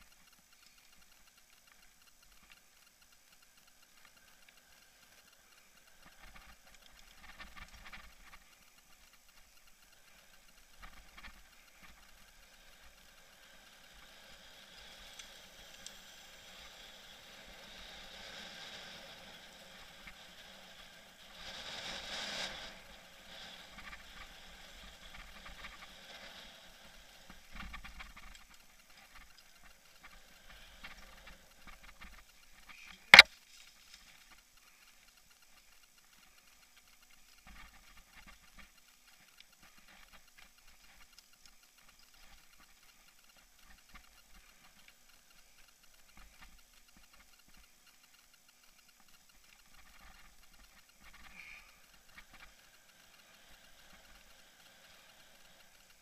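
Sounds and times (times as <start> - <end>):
camera and bike rattling: 0.0 - 56.0.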